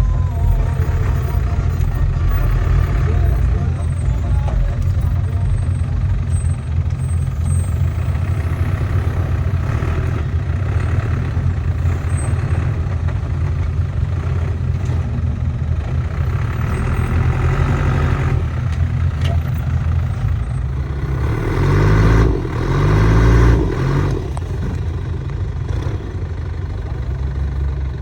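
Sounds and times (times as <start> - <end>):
vehicle engine low rumble: 0.0 - 28.0.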